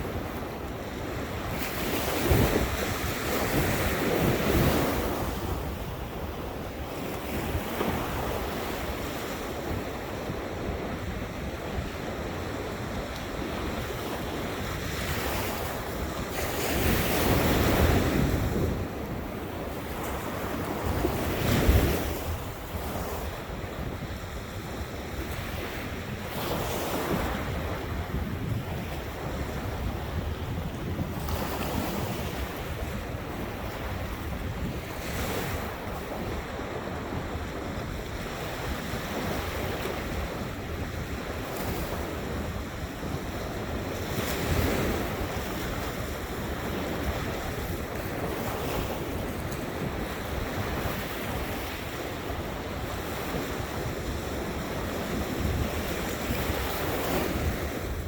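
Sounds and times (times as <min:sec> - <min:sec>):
ocean waves breaking on beach: 0:00.0 - 0:58.0
wind buffeting microphone: 0:00.0 - 0:58.0.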